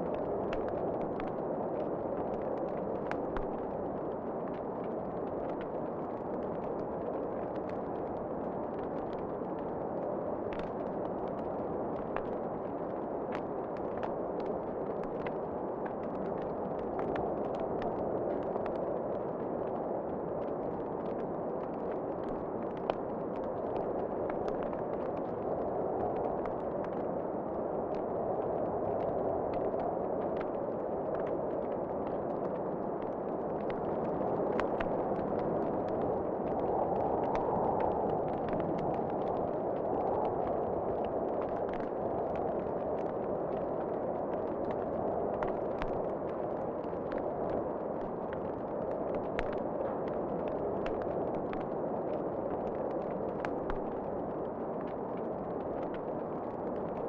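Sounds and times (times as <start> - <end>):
fireplace fire crackling: 0.0 - 57.0
low rush of wind: 0.0 - 57.0.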